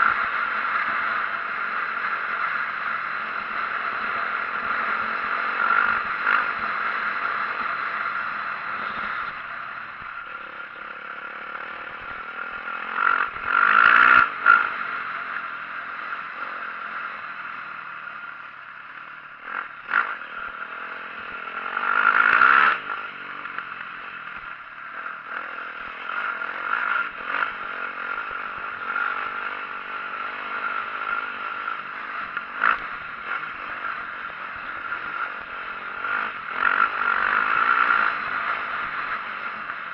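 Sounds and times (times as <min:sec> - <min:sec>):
dirt bike engine revving: 0:00.0 - 0:17.6, 0:19.3 - 0:39.9.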